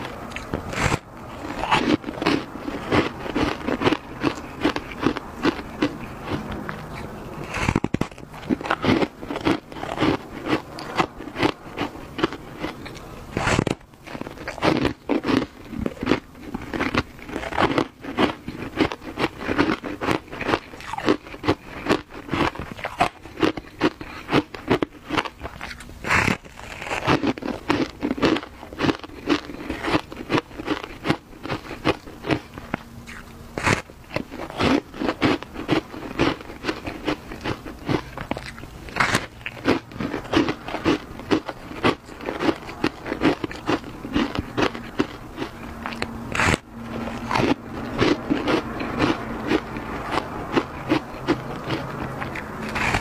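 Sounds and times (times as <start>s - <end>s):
ice crunching between teeth: 0.0s - 53.0s.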